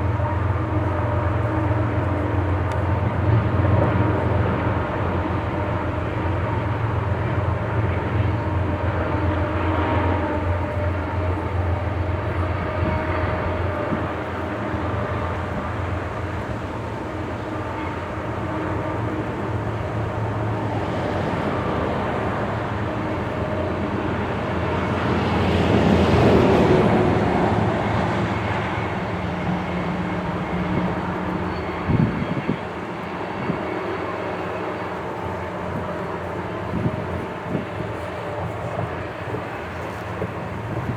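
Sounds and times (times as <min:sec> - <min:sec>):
distant freight train diesel rumble: 0:00.0 - 0:40.9.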